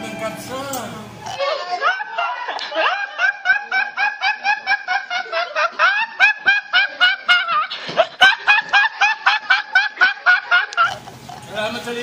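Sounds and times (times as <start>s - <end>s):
boy laughing rapidly: 1.4s - 11.0s.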